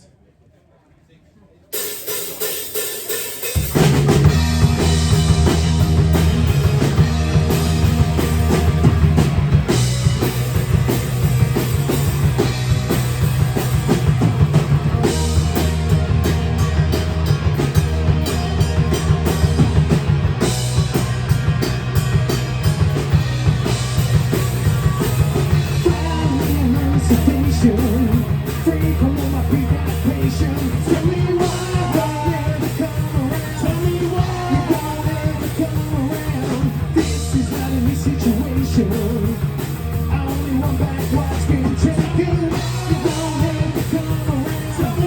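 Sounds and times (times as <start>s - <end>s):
live rock band playing: 1.8s - 45.0s.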